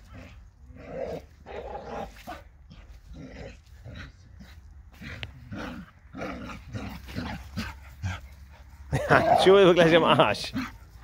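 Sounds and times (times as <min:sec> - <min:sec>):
dogs playing roughly: 0:00.0 - 0:11.0.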